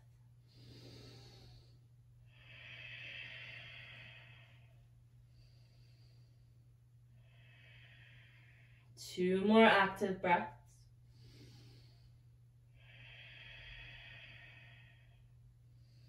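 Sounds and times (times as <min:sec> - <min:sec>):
person breathing deeply: 0:00.5 - 0:09.0, 0:11.0 - 0:16.0.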